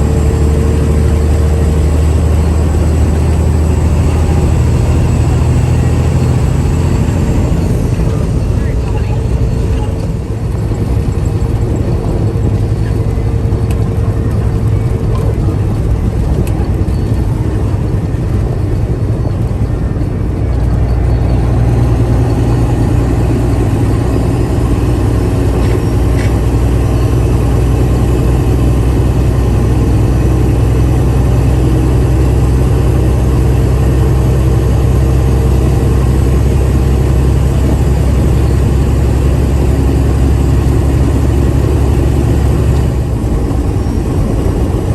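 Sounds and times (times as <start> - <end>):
vehicle engine and road noise: 0.0 - 44.9.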